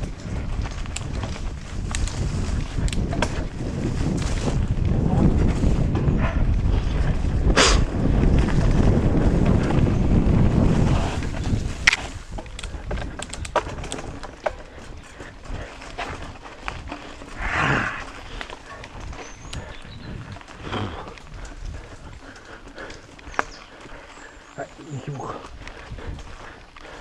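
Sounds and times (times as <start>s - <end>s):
bike clicks and rattles: 0.0s - 27.0s
bike tyres on dirt: 0.0s - 27.0s
wind rumbling on microphone: 0.0s - 27.0s.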